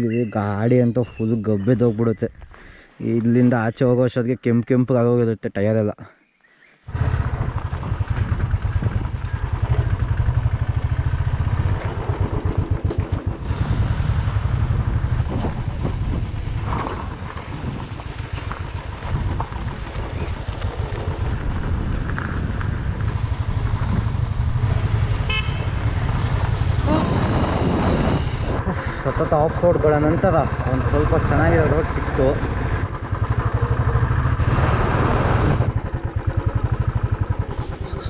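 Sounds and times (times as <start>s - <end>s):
road and wind noise: 6.8s - 38.0s.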